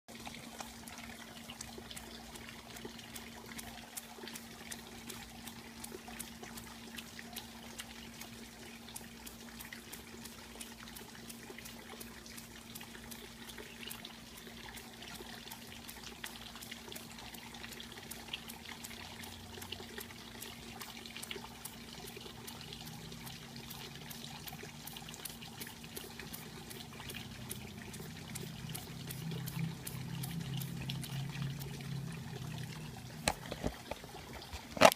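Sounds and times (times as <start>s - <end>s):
water trickling and splashing: 0.1s - 34.9s
steady low hum: 0.2s - 34.0s.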